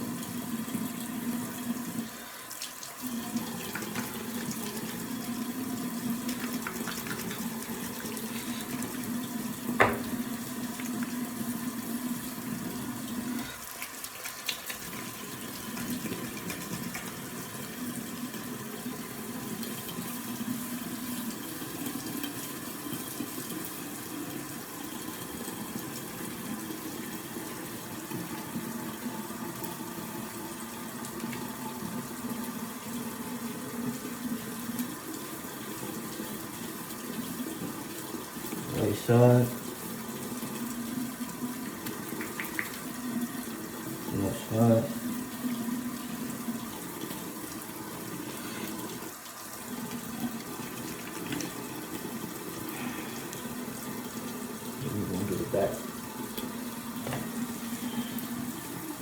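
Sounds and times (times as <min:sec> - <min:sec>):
hair washed with soap: 0:00.0 - 0:59.0
tap water running: 0:00.0 - 0:59.0.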